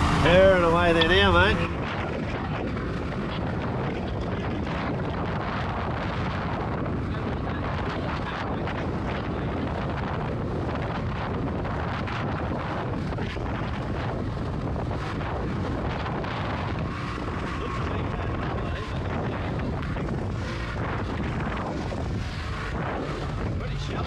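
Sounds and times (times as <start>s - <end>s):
outboard motor and hull drone: 0.0s - 24.0s
wind buffeting microphone: 0.0s - 24.0s.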